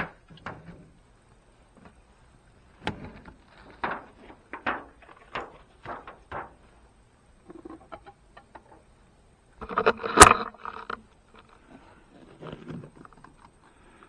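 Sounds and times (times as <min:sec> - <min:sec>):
handling scrapes and knocks: 0:00.0 - 0:08.9, 0:09.6 - 0:13.6.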